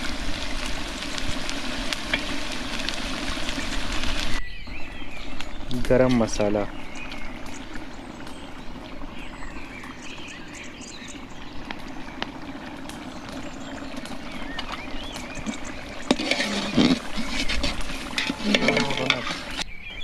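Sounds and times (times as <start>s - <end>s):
pot bubbling: 0.0s - 19.7s
faint birds chirping: 2.2s - 20.0s.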